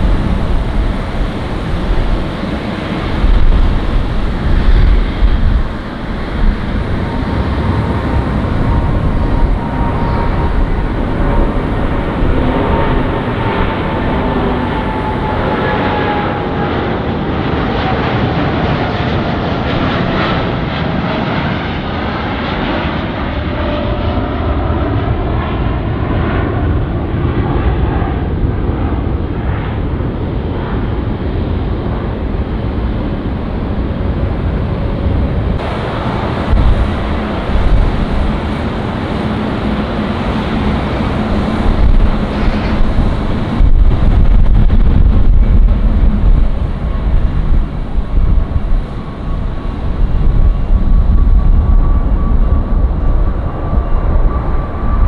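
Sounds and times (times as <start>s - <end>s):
jet engines at takeoff: 0.0s - 55.0s
low jet engine rumble: 0.0s - 55.0s.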